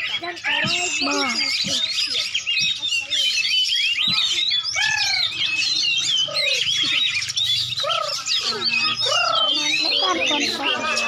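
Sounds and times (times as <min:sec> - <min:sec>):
songbirds chorus: 0:00.0 - 0:11.0
low rising and falling bird call: 0:00.7 - 0:11.0.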